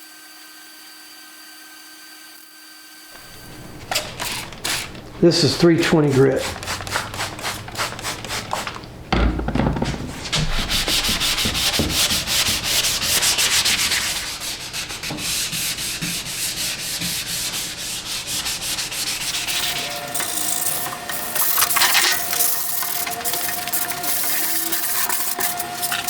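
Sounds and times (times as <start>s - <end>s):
sandpaper scratching strokes: 3.2s - 9.0s, 10.3s - 26.0s.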